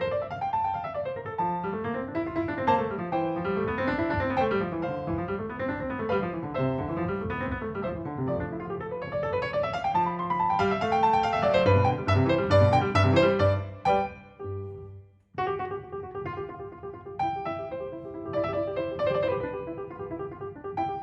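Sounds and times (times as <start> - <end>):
piano arpeggios: 0.0 - 21.0.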